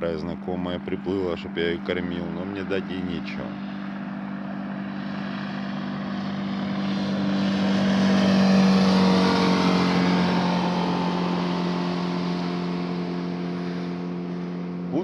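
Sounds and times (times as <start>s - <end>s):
outboard motor passing: 0.0s - 15.0s.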